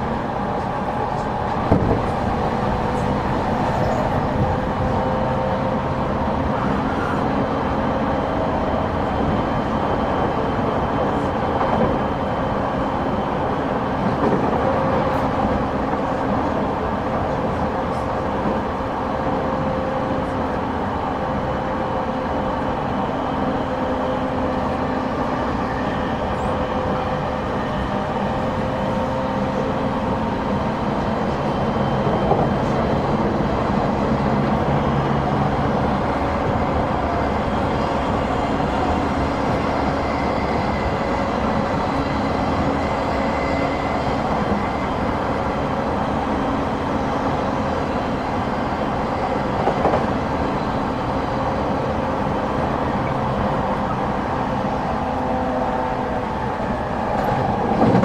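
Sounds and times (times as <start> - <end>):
train motor and gear hum: 0.0 - 58.0
train wheels rumbling on rails: 0.0 - 58.0.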